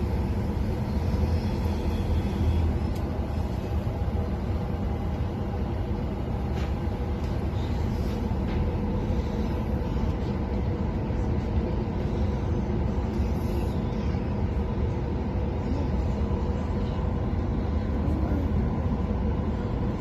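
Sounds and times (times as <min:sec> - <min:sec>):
faint constant hum: 0:00.0 - 0:20.0.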